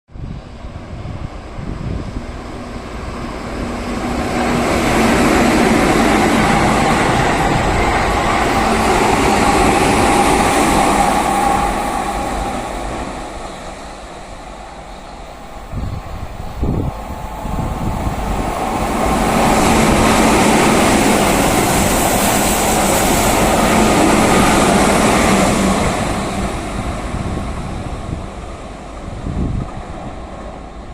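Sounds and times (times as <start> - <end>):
electric train passing: 0.2 - 30.9.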